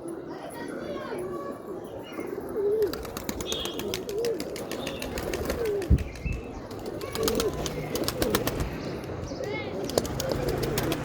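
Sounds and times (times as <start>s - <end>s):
pigeons cooing: 2.1s - 11.0s.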